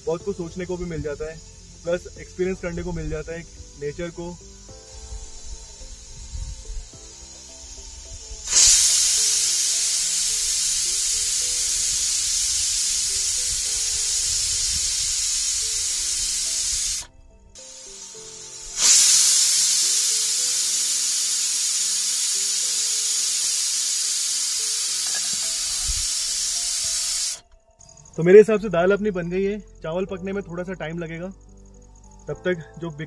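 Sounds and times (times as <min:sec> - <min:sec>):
pressure cooker whistling steam: 0:00.0 - 0:29.6.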